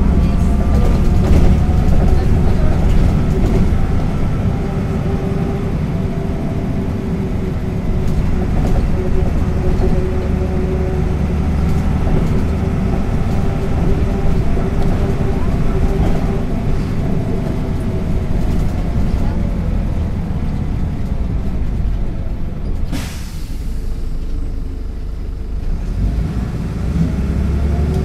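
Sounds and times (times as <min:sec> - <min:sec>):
bus diesel engine rumble: 0:00.0 - 0:28.0.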